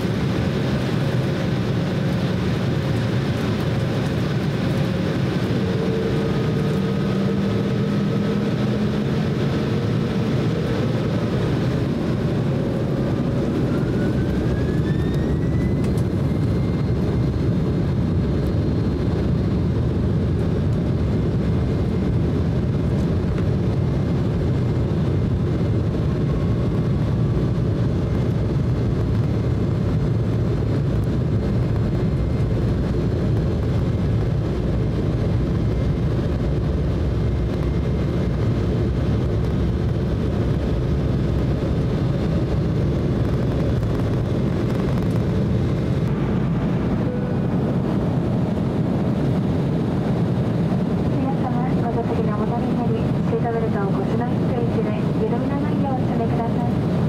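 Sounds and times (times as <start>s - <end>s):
jet engine whine: 0.0s - 57.0s
loud engine rumble: 0.0s - 57.0s.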